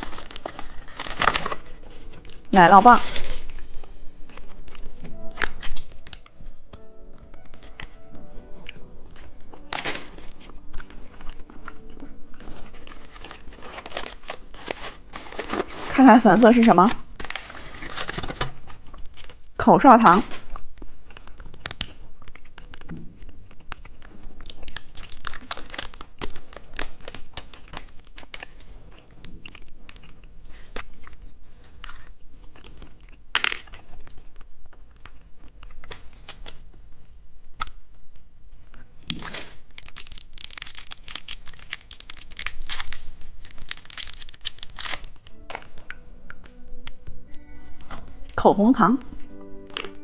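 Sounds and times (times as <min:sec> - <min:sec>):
plastic wrapper crinkling: 0:00.0 - 0:48.4.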